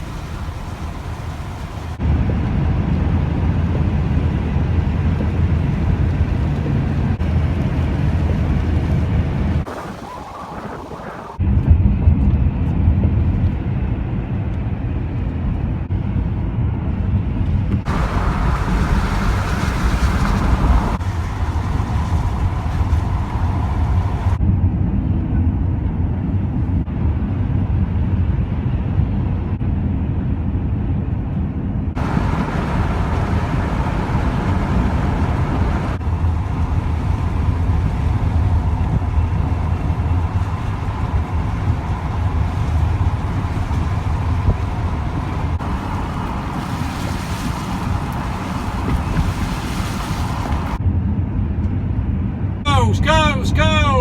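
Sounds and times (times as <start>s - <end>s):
van engine and tyre rumble: 0.0s - 52.6s.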